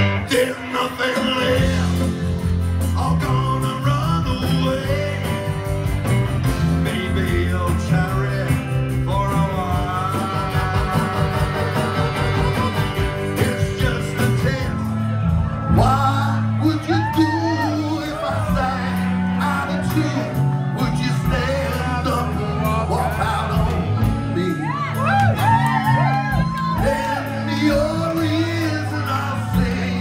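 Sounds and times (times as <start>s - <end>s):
person singing: 0.0s - 15.0s, 15.7s - 30.0s
live rock band playing: 0.0s - 30.0s.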